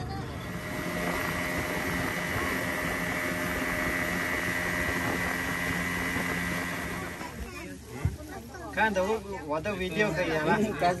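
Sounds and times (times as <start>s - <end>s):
outboard motor drone: 0.0s - 11.0s
water rushing along hull: 0.0s - 11.0s.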